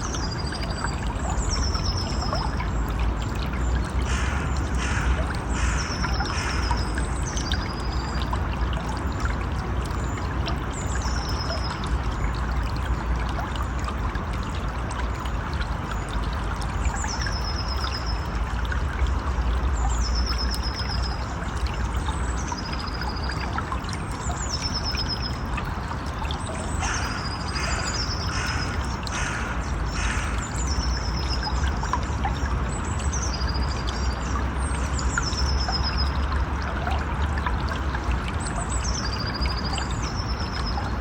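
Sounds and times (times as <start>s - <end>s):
river water running: 0.0s - 41.0s.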